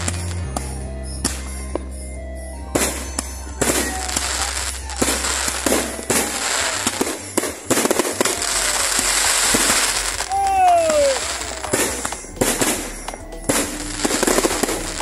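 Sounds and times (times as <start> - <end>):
firework crackling: 0.0 - 1.8, 2.7 - 15.0
firework shells banging: 2.8 - 15.0.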